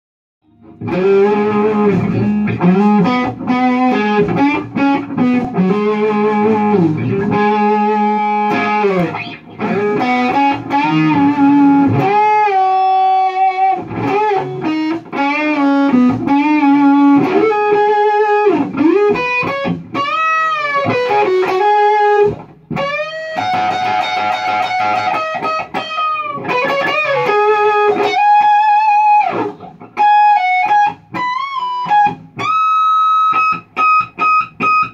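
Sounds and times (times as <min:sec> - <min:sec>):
distorted electric guitar: 0:00.4 - 0:34.9.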